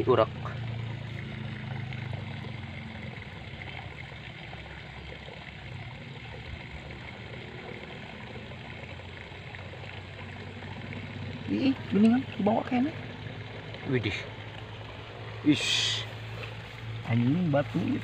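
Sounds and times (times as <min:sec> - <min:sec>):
running water trickling: 0:00.0 - 0:18.0.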